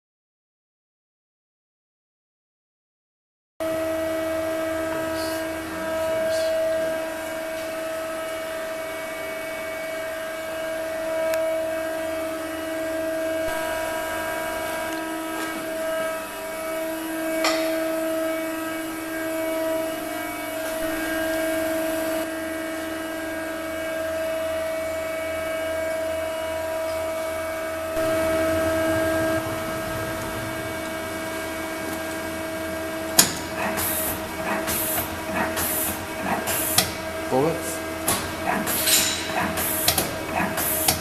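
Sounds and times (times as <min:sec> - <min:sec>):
lathe humming: 0:03.7 - 0:41.0.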